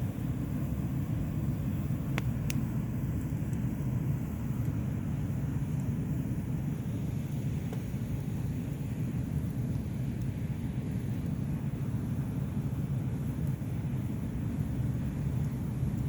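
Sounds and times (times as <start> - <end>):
bonfire crackling pops: 0.0 - 16.0.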